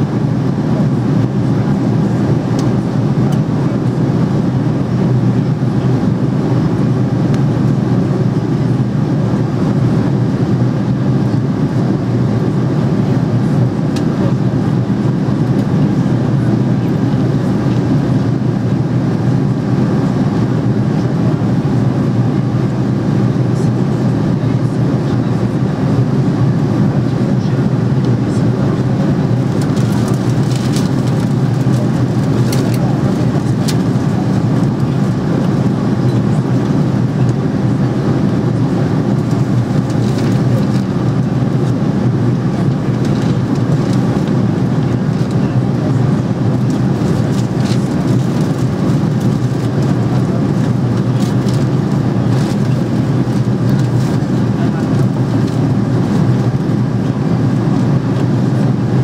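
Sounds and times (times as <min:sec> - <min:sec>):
airplane engines droning: 0:00.0 - 0:59.0.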